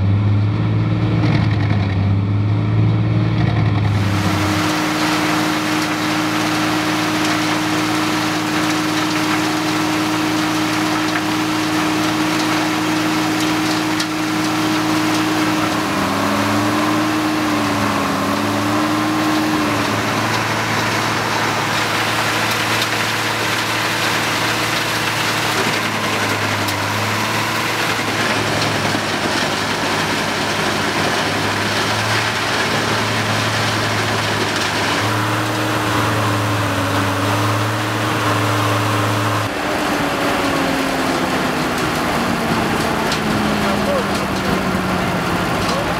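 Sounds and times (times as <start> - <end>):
tractor engine running: 0.0 - 45.9
wood chipper shredding: 0.0 - 45.9.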